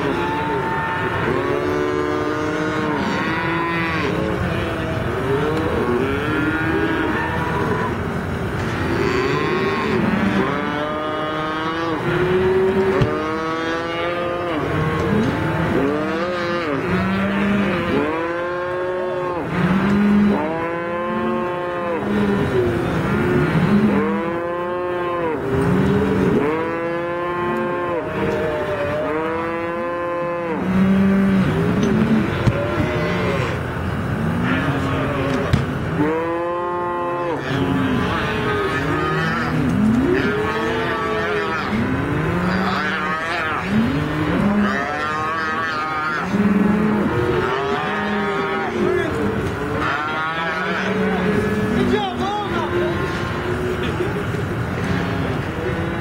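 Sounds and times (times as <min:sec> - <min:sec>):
cattle bawling: 0:00.0 - 0:56.0.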